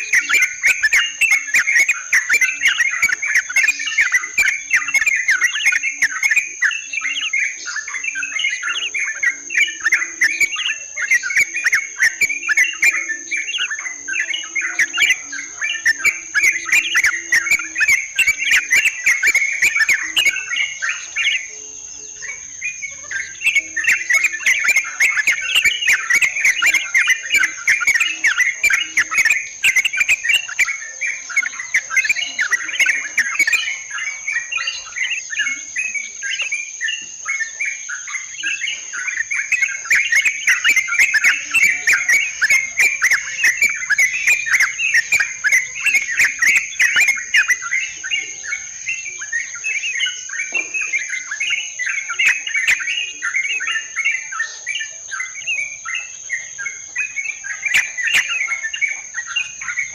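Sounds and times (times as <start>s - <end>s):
bulbuls chattering: 0.0s - 59.9s
high insect whine: 0.0s - 59.9s.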